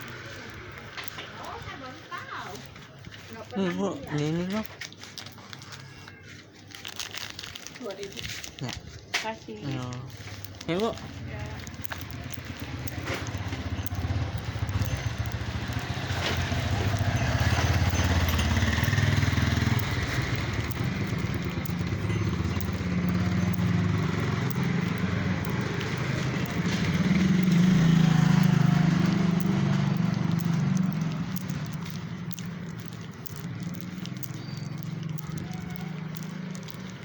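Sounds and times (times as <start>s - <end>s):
vehicle engine running: 0.0s - 6.3s, 9.5s - 37.0s.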